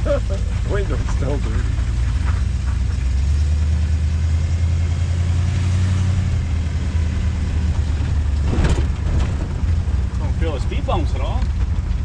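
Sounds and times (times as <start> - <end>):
low engine drone: 0.0 - 12.0
road and tyre noise: 0.0 - 12.0.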